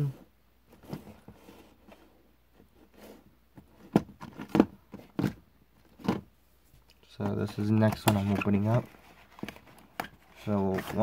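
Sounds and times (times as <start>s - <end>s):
cardboard boxes rustling: 0.7s - 6.3s, 7.1s - 11.0s.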